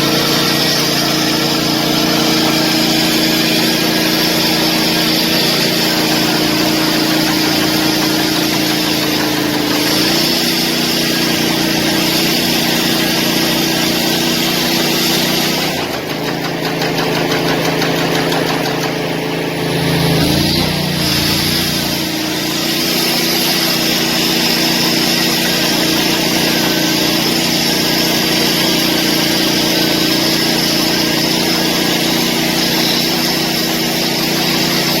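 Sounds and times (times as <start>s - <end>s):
construction machinery engine: 0.0s - 35.0s.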